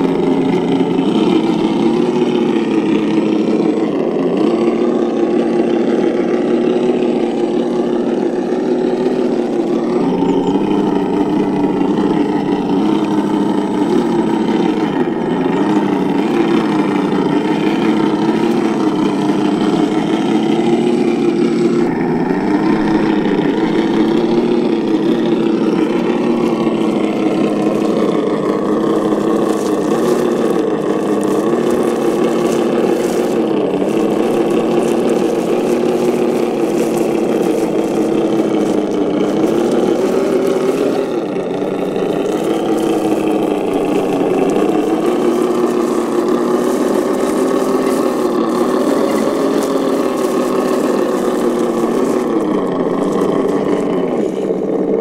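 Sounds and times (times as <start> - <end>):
engine-like drone: 0.0 - 55.0.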